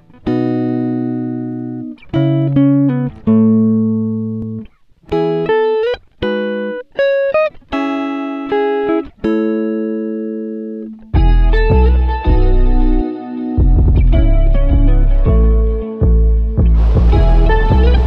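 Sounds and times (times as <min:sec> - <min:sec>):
guitar picking notes and chords: 0:00.0 - 0:18.0.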